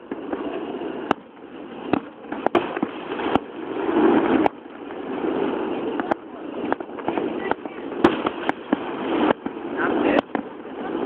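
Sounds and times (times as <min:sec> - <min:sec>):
fireworks cracking: 0:00.0 - 0:11.0
steady rushing noise: 0:00.0 - 0:11.0.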